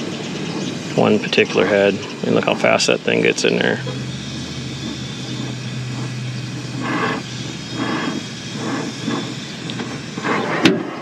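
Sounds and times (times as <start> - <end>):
low hum: 0.0 - 11.0
torch flame hissing: 0.0 - 11.0.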